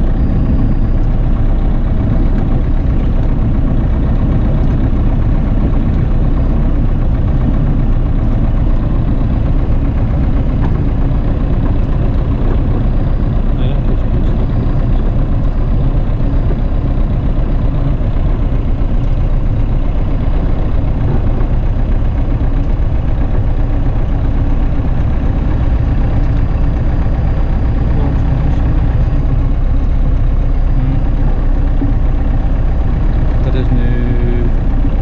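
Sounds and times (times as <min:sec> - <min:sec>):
aircraft piston engine droning: 0:00.0 - 0:35.0.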